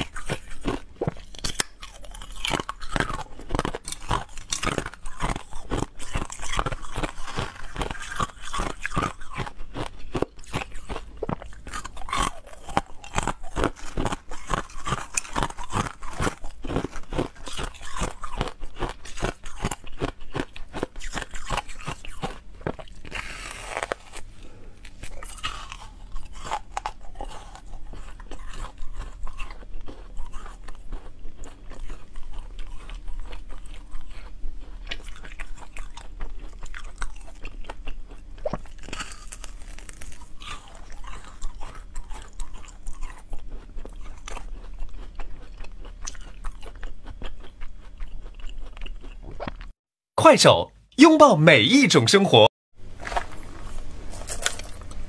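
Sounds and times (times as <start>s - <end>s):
ice crunching being chewed: 0.0s - 49.8s, 53.0s - 55.0s.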